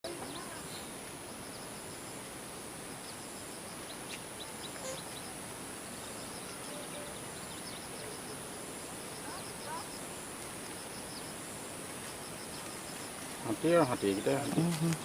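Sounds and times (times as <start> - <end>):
steady hiss of background noise: 0.0 - 15.0
faint bird chirps: 0.1 - 2.3, 3.0 - 15.0.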